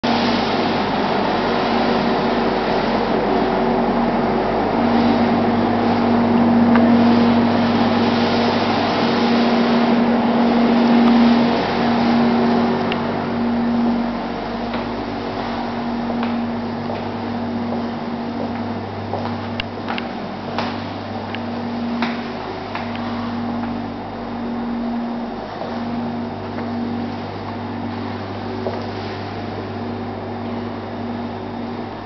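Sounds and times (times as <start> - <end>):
low hum: 0.0 - 32.0
mechanical drone with hiss: 0.0 - 32.0.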